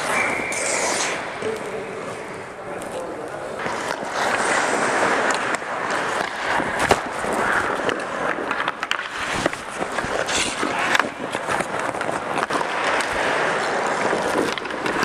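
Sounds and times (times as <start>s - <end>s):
hockey sticks and puck clacking: 0.0s - 15.0s
skate blades scraping ice: 0.0s - 15.0s.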